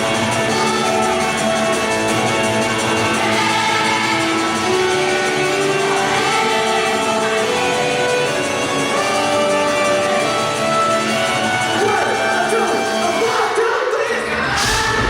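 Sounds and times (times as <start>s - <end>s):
electric guitar sustained notes: 0.0s - 15.0s.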